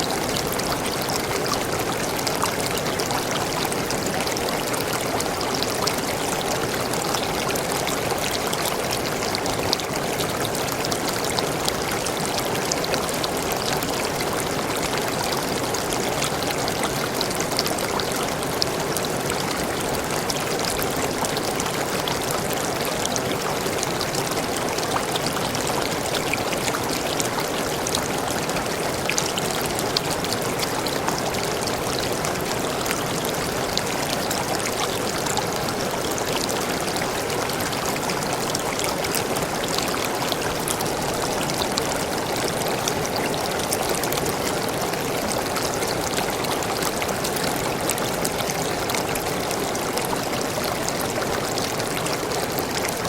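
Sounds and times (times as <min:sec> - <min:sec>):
waterfall pouring and splashing: 0:00.0 - 0:53.0.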